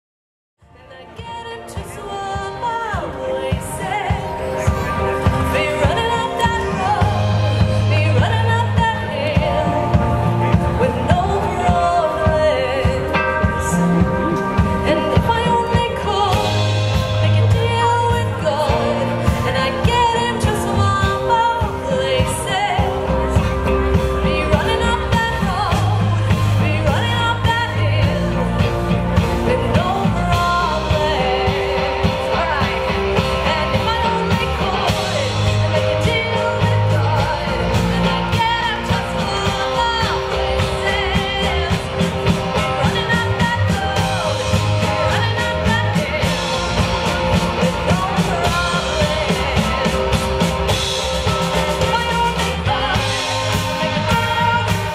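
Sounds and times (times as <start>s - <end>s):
upbeat pop-rock music with singing: 0.6s - 54.9s.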